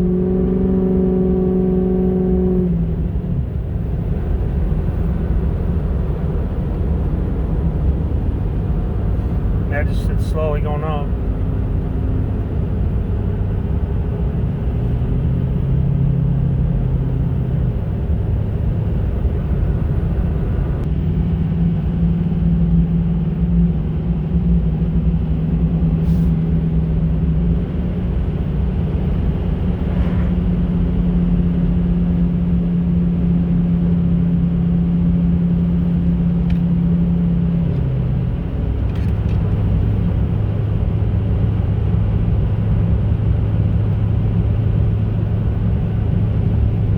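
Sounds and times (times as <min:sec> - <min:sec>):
diesel truck engine running: 0:02.8 - 0:46.9.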